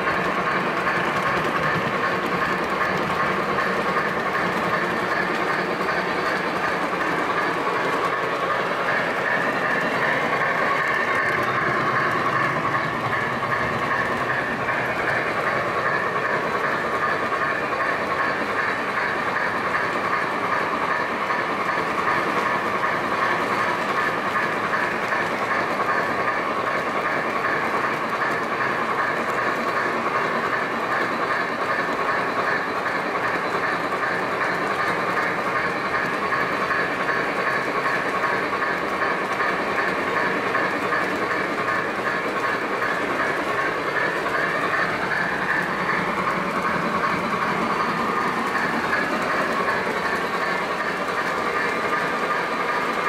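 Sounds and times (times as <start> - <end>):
model train rolling on track: 0.0 - 53.0.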